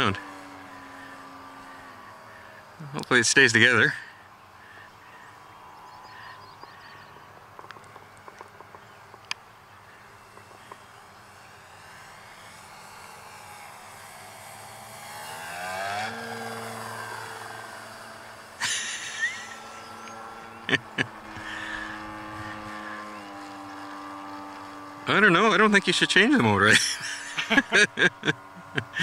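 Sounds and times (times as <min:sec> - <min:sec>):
model aircraft electric motor: 0:00.0 - 0:29.0.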